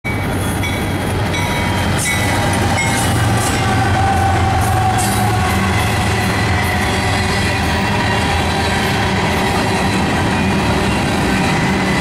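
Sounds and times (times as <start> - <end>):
wheels rumbling on rails: 0.0 - 12.0
diesel locomotive engine drone: 0.1 - 12.0.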